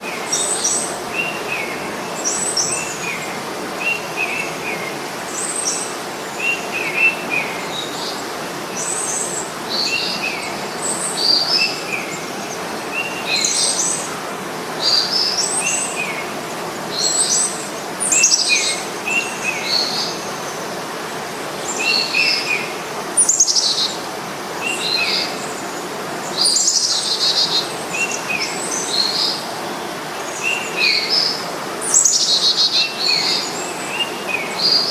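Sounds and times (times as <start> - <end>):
steady outdoor hiss: 0.0 - 34.9.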